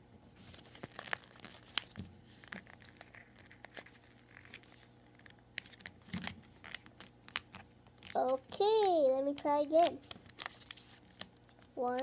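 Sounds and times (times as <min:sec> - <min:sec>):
paper crinkling and crackling: 0:00.4 - 0:08.6, 0:09.2 - 0:12.0.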